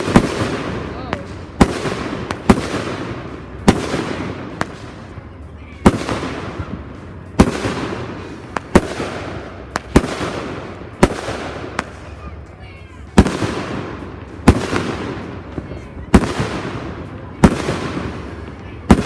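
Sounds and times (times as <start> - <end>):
fireworks bangs echoing: 0.0 - 19.0.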